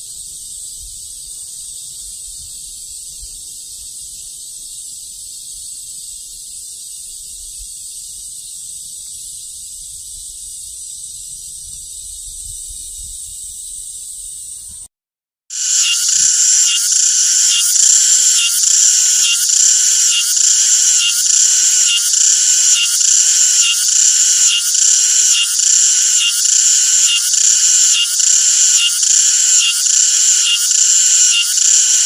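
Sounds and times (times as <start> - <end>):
cicadas buzzing: 0.0 - 14.9, 15.5 - 32.0.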